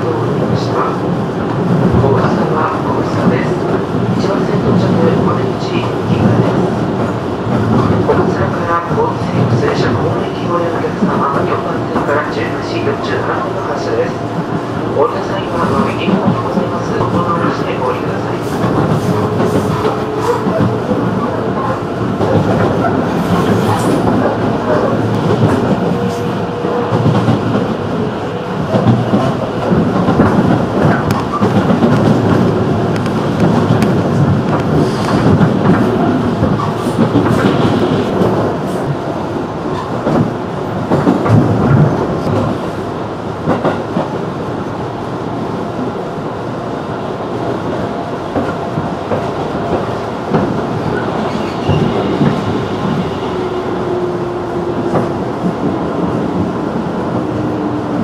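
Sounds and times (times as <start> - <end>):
train rumble with wheel clatter: 0.0 - 58.0.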